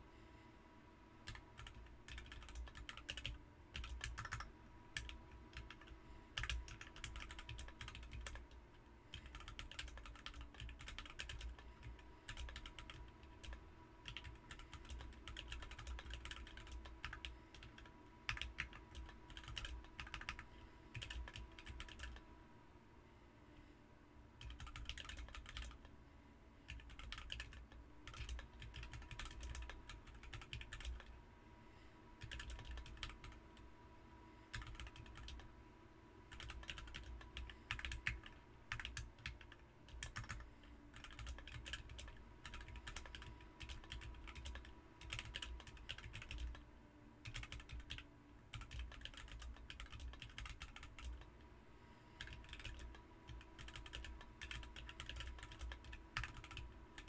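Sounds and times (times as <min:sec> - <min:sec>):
mechanical keyboard typing: 0:01.2 - 0:22.2, 0:24.4 - 0:25.9, 0:26.7 - 0:31.1, 0:32.2 - 0:33.4, 0:34.5 - 0:35.5, 0:36.3 - 0:46.6, 0:47.2 - 0:51.3, 0:52.2 - 0:57.0.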